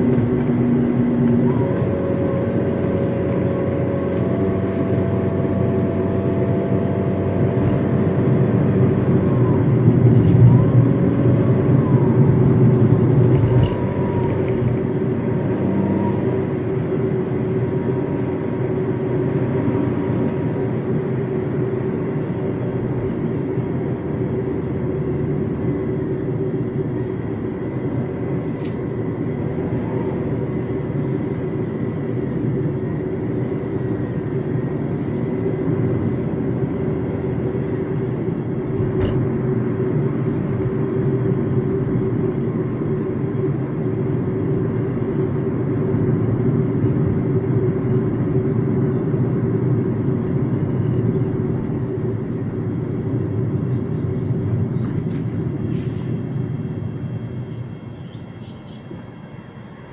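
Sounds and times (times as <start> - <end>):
car engine hum: 0.0 - 59.9
tyre and road noise: 0.0 - 59.9.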